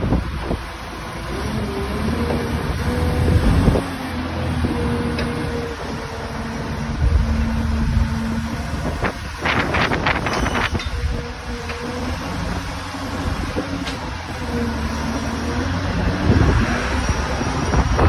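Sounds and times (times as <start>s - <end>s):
wind buffeting microphone: 0.0s - 5.7s, 6.6s - 14.4s, 15.5s - 18.0s.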